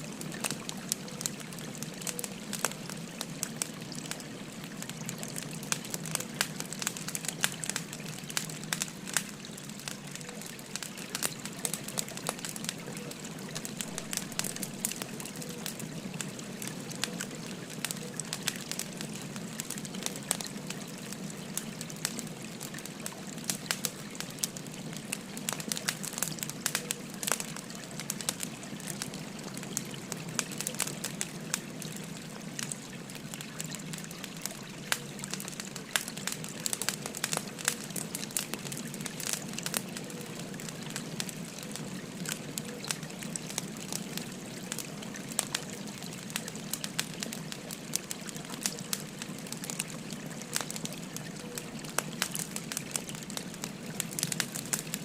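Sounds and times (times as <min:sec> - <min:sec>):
flowing stream: 0:00.0 - 0:55.0
wood fire crackling: 0:00.0 - 0:55.0.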